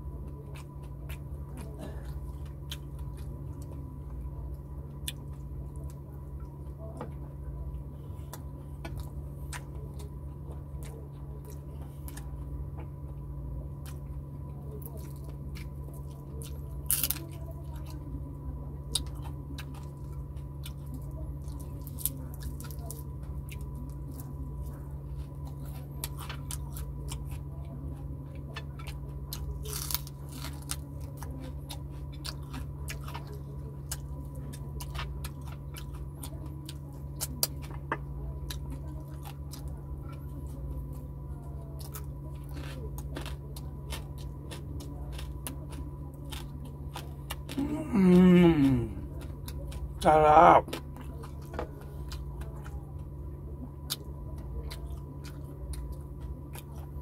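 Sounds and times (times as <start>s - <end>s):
chewing and crunching food: 0.0s - 57.0s
steady low hum: 0.0s - 57.0s.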